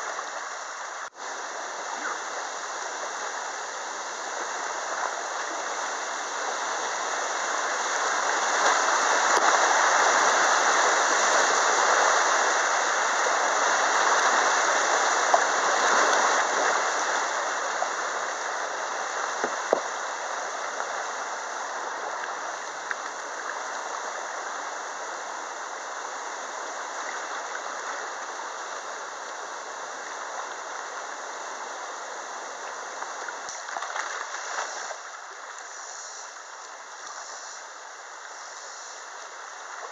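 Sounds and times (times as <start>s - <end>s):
whitewater rushing over rocks: 0.0s - 39.9s.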